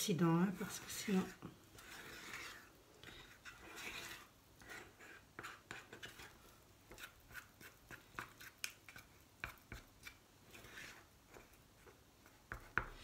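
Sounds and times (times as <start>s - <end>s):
utensil scraping a saucepan: 0.5s - 11.1s.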